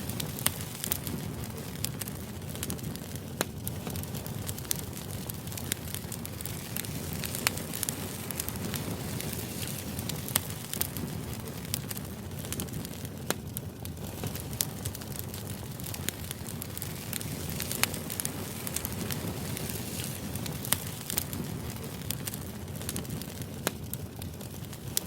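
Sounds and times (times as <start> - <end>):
sharp crackles and clicks: 0.0 - 25.0.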